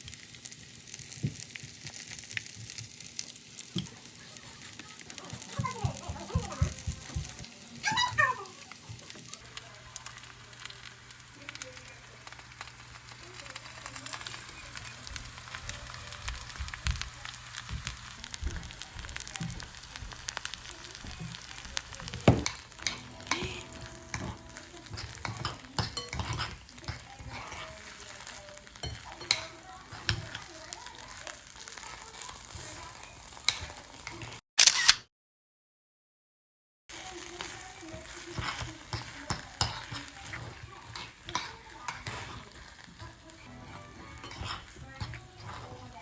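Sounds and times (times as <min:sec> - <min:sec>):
rice sizzling in hot pot: 0:00.0 - 0:34.4, 0:36.9 - 0:46.0.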